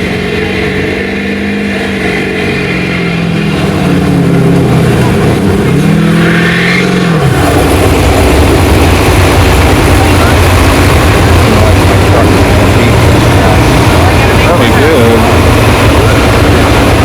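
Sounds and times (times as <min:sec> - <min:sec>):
diesel truck engine revving: 0:00.0 - 0:17.0.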